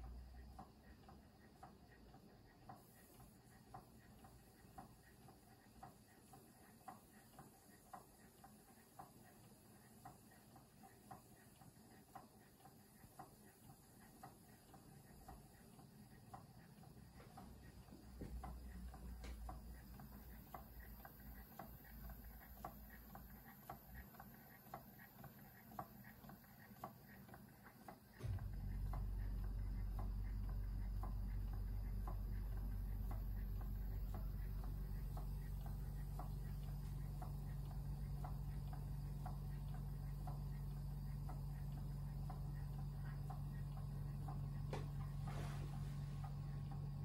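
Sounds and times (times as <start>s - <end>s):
steam engine clicking beats: 0.0s - 47.0s.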